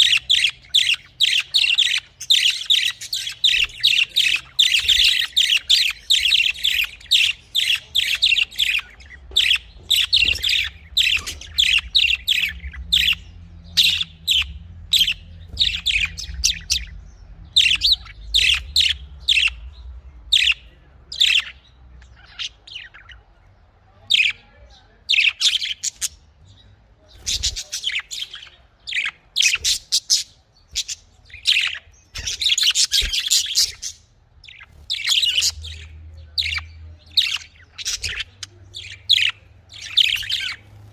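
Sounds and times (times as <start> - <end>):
budgerigars chirping: 0.0 - 23.4, 24.1 - 26.2, 27.1 - 40.9
faint low hum: 0.0 - 40.9.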